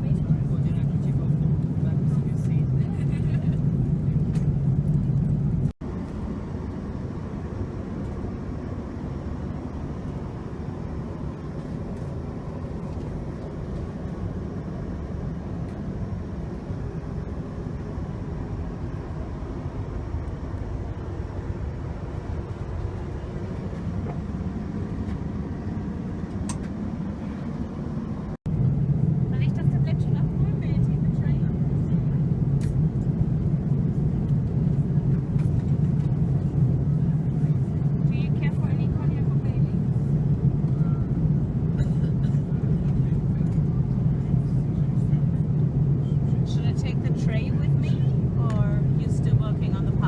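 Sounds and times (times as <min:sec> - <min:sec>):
airliner cabin noise: 0:00.0 - 0:50.0
loud low hum: 0:00.0 - 0:50.0.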